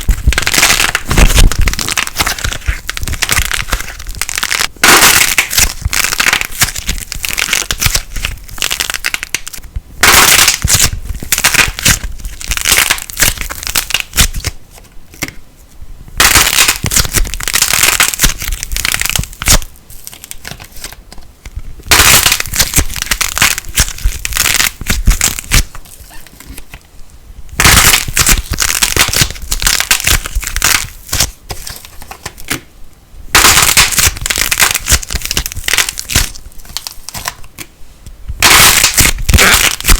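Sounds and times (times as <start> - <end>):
plasticine crackling and popping: 0.0 - 15.4, 16.2 - 26.9, 27.5 - 32.7, 33.3 - 37.7, 38.4 - 39.9.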